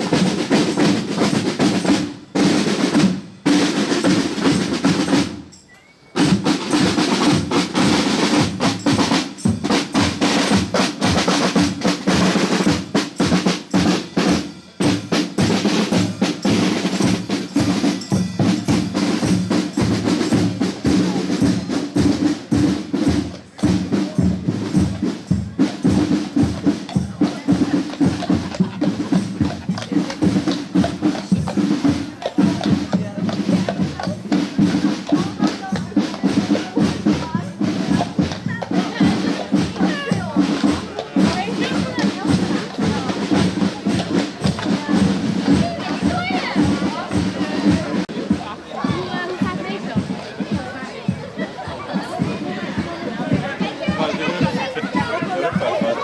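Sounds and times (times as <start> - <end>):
snare drum rolls: 0.0 - 5.6, 6.2 - 56.0
bass drum beats: 6.2 - 56.0.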